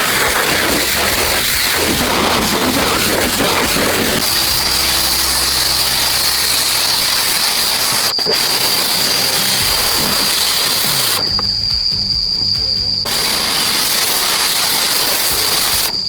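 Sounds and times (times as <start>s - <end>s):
low machine hum: 0.0s - 13.1s
loud steady hiss: 0.0s - 16.0s
thin high whine: 0.0s - 16.0s.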